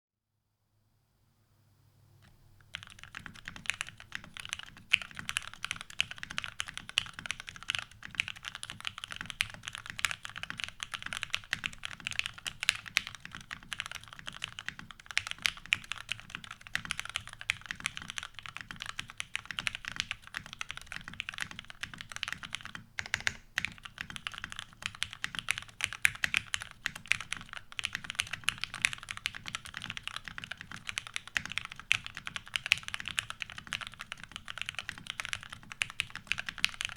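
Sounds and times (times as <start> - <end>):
fast typing on mechanical keyboard: 2.7 - 36.9.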